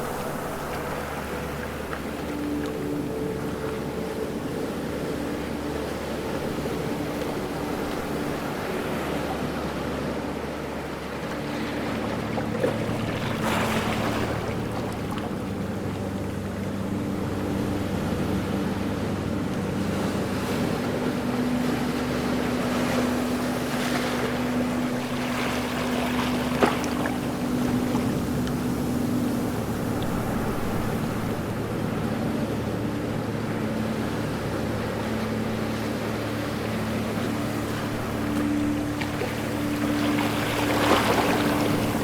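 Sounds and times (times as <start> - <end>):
ocean waves breaking: 0.0 - 42.0
steady low hum: 0.0 - 42.0.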